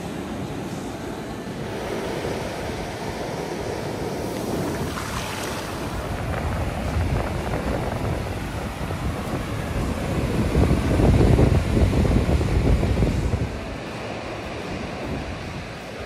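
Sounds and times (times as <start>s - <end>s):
ocean surf breaking on sand: 0.0s - 16.0s
wind buffeting microphone: 0.0s - 16.0s.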